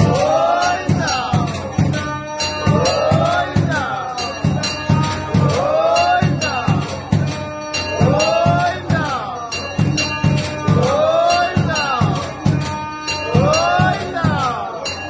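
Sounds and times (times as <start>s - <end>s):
bell-like percussion: 0.0s - 15.0s
steady drum beat: 0.0s - 15.0s.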